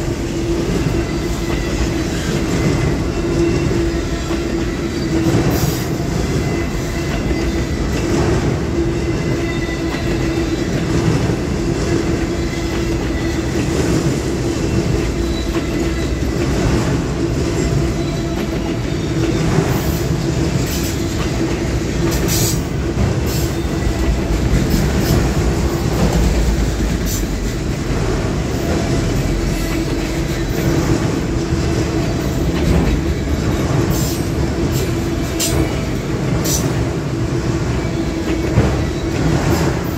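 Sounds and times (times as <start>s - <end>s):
clicks of train wheels: 0.0s - 39.9s
train wheels rumbling on rail: 0.0s - 39.9s.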